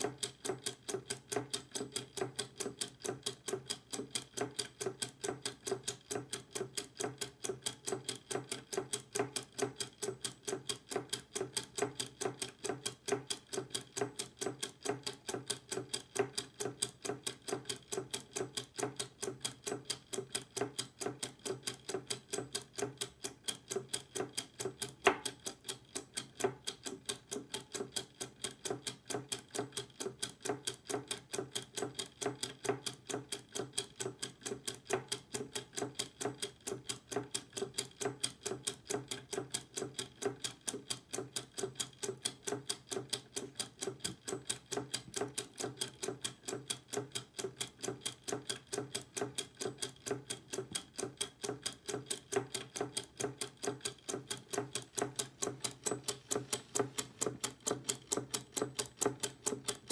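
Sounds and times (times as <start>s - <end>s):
clockwork gears ticking: 0.0s - 59.9s.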